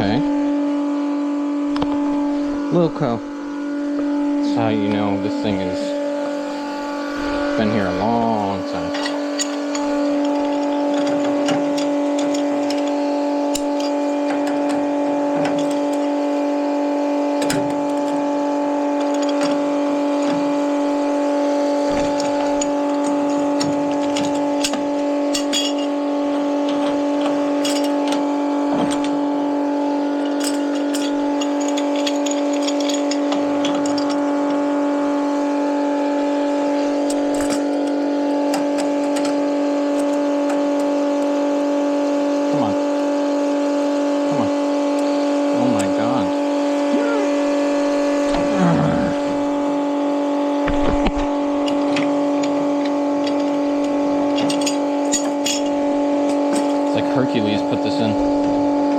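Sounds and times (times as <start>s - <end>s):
pitched machine hum: 0.0s - 58.9s.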